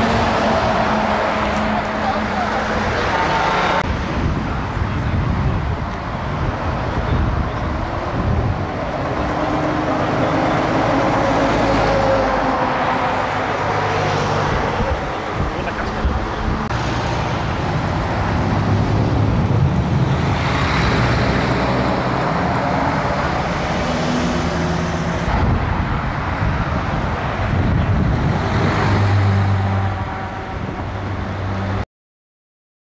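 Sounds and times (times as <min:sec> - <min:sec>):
trucks driving past: 0:00.0 - 0:31.8
tyre and road noise: 0:00.0 - 0:31.8.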